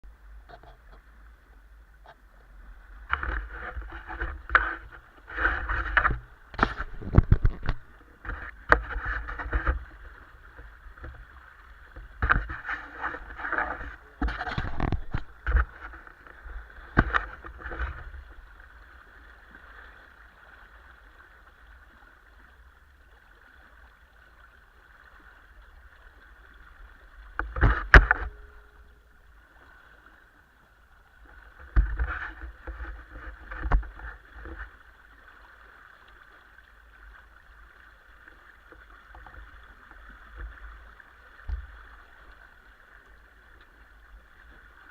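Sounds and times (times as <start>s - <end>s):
water splashing against hull: 0.0s - 44.9s.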